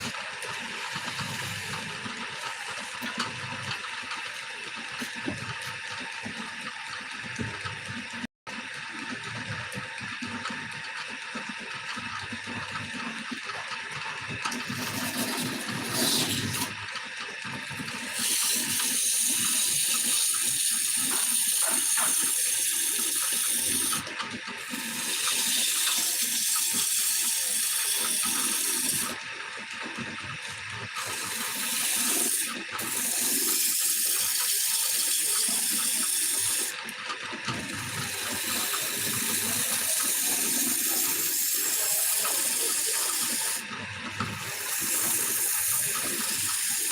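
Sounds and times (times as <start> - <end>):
lathe running: 0.0 - 7.9, 14.2 - 16.8, 17.4 - 29.2, 30.4 - 46.9
turning tool cutting wood: 0.0 - 8.2, 14.2 - 29.2, 29.8 - 46.9.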